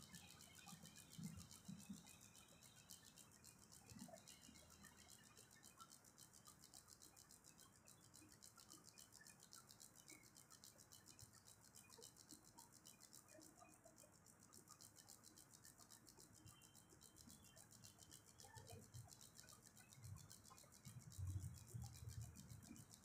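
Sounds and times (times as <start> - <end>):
high-pitched ticking hiss: 0.0 - 23.0.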